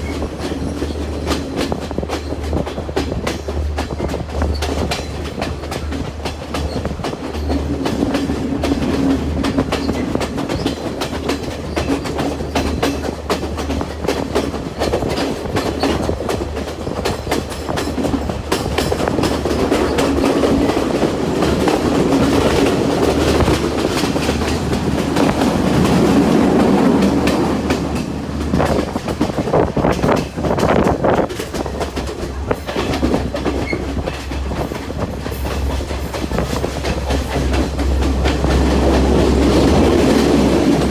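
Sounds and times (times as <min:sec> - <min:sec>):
train rumbling on track: 0:00.0 - 0:40.9
wheels clicking on rails: 0:00.0 - 0:40.9.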